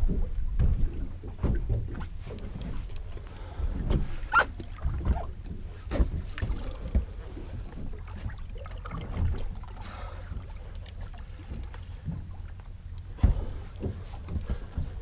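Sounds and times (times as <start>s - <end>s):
knocks and splashes: 0.0s - 15.0s
water slapping boat hull: 0.0s - 15.0s.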